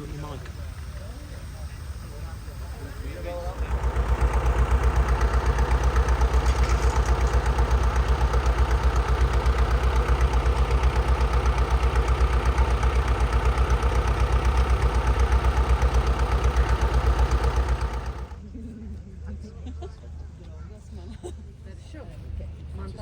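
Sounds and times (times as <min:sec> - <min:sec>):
large diesel engine running: 0:00.0 - 0:19.5.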